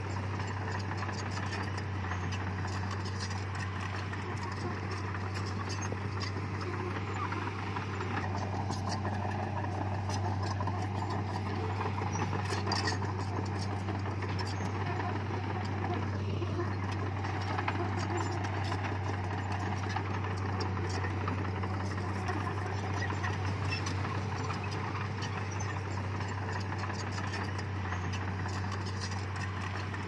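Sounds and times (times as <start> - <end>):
diesel engine droning: 0.0 - 30.0
light rattles: 0.0 - 30.0.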